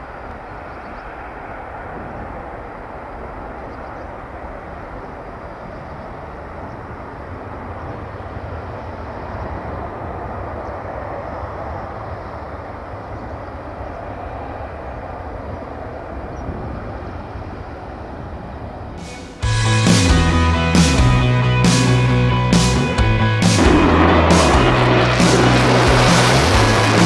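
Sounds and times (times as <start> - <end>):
jet aircraft climbing rumble: 0.0 - 27.0.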